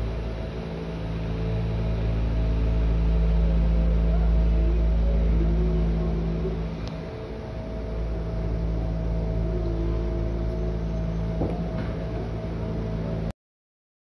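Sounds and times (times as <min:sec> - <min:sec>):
faint rising whines: 0:00.0 - 0:13.3
train running drone: 0:00.0 - 0:13.3.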